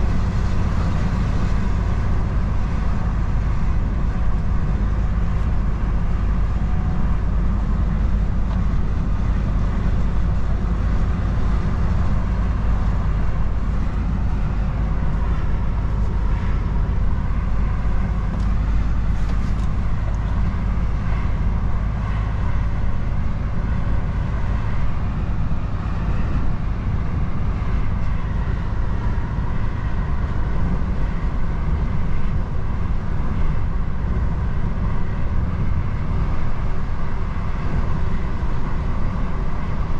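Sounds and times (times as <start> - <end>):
road noise hiss: 0.0 - 39.9
truck engine rumble: 0.0 - 39.9.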